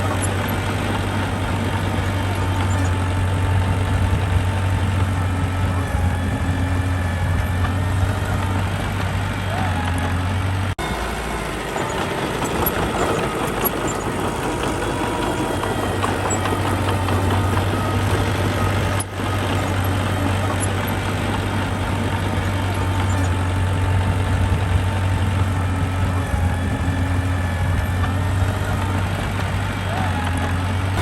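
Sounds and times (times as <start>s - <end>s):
diesel engine of heavy machinery: 0.0s - 31.0s.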